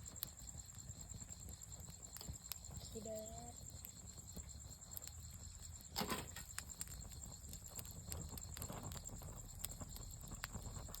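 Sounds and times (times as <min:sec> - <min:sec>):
campfire wood crackling: 0:00.0 - 0:11.0.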